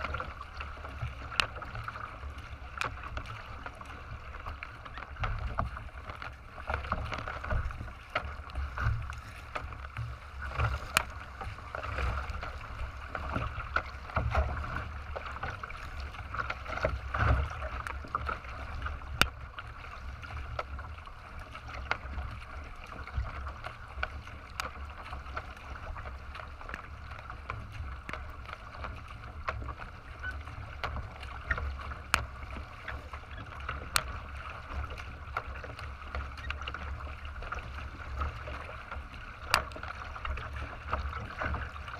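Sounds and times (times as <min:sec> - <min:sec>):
water rushing along kayak hull: 0:00.0 - 0:41.9.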